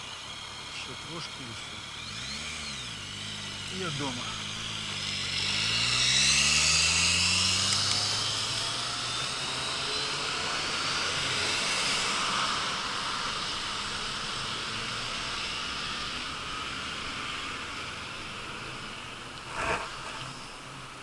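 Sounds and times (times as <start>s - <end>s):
engine drone with hiss: 0.0s - 21.0s.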